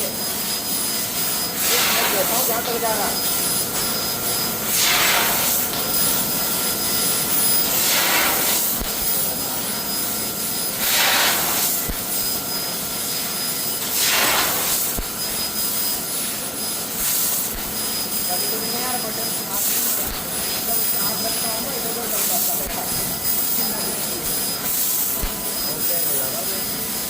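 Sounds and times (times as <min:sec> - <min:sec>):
laser cutter gas hiss: 0:00.0 - 0:27.0.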